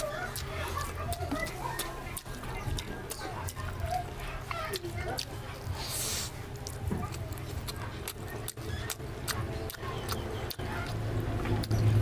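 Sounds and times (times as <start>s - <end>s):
man chewing crunchy food: 0.0s - 12.0s.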